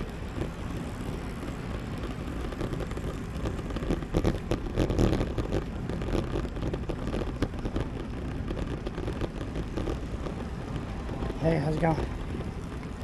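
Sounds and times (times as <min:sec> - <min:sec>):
bike tyre road noise: 0:00.0 - 0:13.0
wind rushing over microphone: 0:00.0 - 0:13.0.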